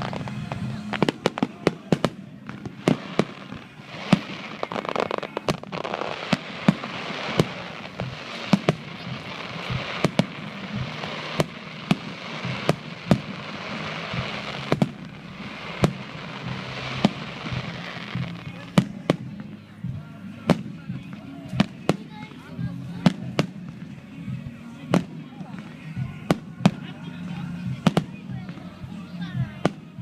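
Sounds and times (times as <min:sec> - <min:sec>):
crackling hiss: 0:00.0 - 0:26.8
fireworks bangs: 0:00.0 - 0:30.0.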